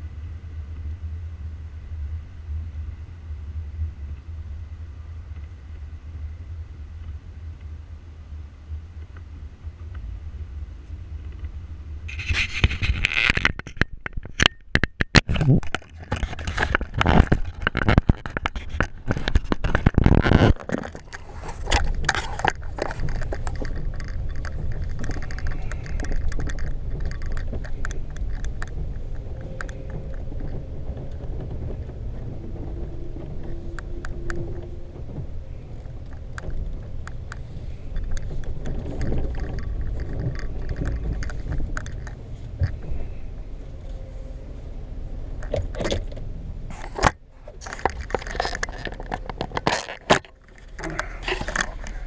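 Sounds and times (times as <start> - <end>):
truck engine and road rumble: 0.0 - 52.0
faint rattles: 9.8 - 52.0.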